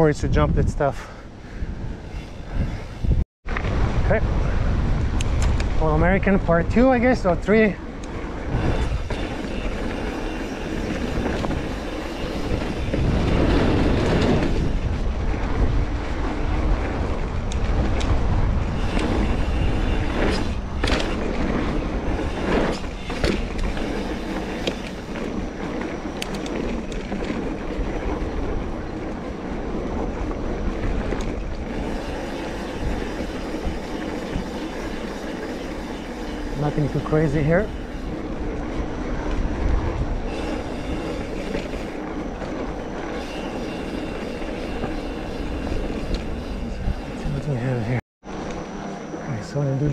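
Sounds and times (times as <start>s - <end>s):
bike rattling: 0.0s - 48.9s
bike tyres rumbling on dirt: 1.1s - 48.0s.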